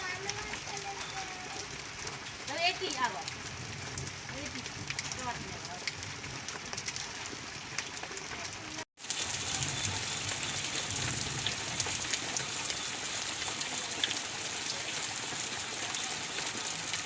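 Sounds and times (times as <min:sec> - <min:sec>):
raindrop impacts ticking: 0:00.0 - 0:17.0
steady rain hiss: 0:00.0 - 0:17.0.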